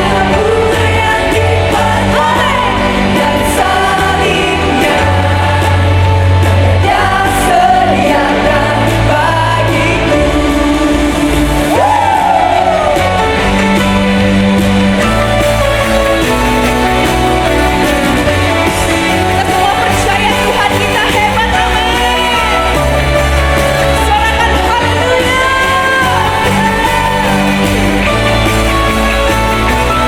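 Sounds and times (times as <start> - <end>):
person singing: 0.0 - 14.2, 15.8 - 30.0
worship band playing: 0.0 - 30.0.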